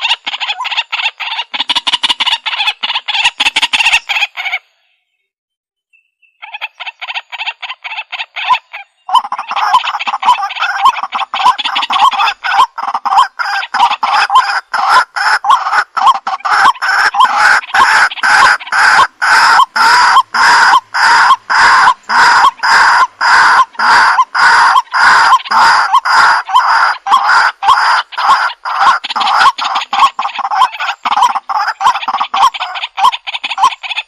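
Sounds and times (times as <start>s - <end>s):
waterhen calling: 0.0s - 4.8s, 6.2s - 34.0s.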